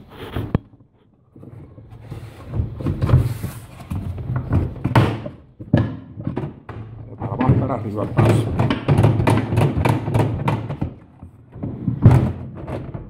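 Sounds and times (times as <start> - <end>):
plastic basket knocking and scraping: 0.0 - 13.0.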